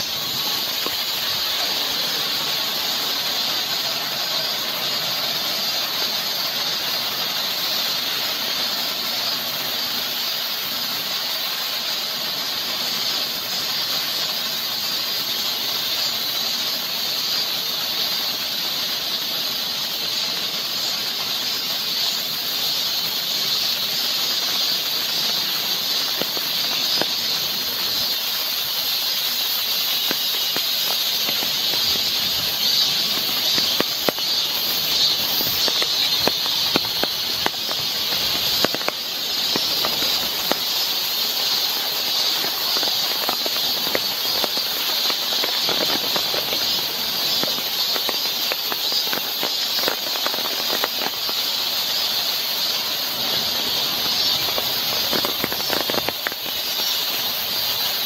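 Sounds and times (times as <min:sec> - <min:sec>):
rain on leaves and wood: 0:00.0 - 0:58.0.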